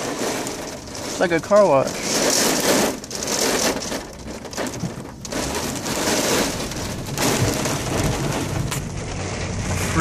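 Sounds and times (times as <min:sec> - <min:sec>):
heavy rain on car roof: 0:00.0 - 0:10.0.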